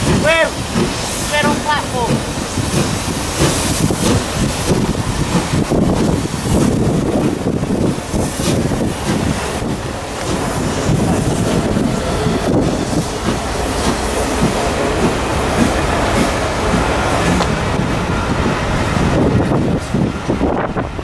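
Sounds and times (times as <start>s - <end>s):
steel wheels on rails: 0.0s - 21.0s
train coaches passing at speed: 0.0s - 21.0s.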